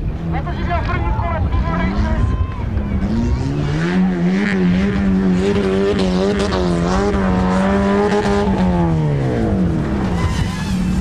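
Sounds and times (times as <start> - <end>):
race vehicle engine at high revs: 0.0 - 11.0.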